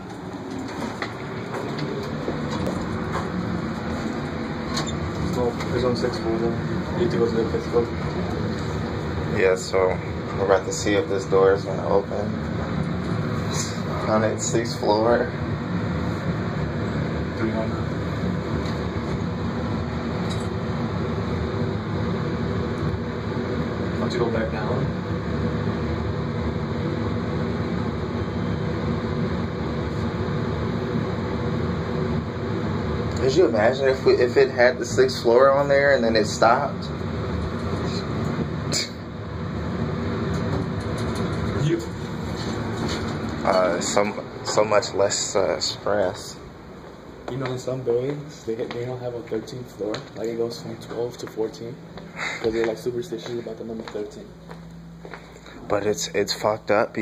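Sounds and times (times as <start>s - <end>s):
elevator hum and rumble: 0.0s - 57.0s.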